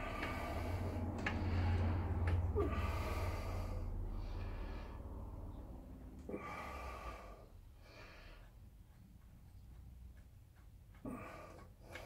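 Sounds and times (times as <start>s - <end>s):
person breathing heavily: 0.0s - 9.0s, 10.9s - 12.0s.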